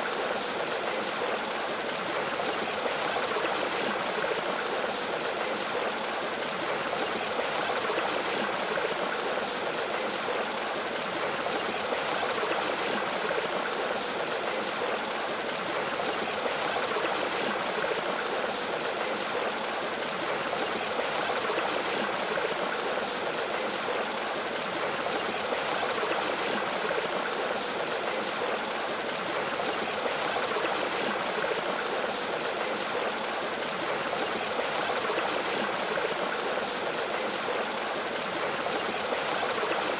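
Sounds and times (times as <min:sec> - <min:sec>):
small waterfall: 0:00.0 - 0:39.9.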